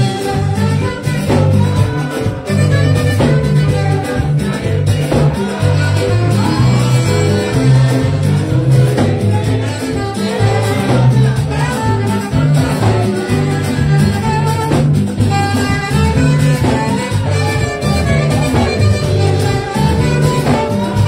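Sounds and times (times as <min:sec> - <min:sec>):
band playing upbeat dance music: 0:00.0 - 0:21.0
bouncing bass line: 0:00.0 - 0:21.0.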